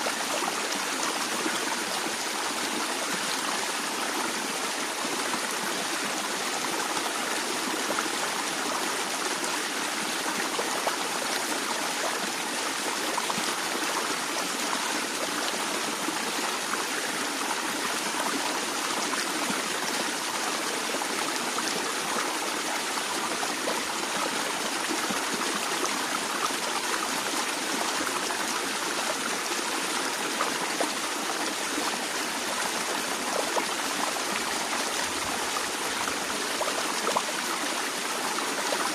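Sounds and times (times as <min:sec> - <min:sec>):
stream water flowing and trickling: 0:00.0 - 0:38.9.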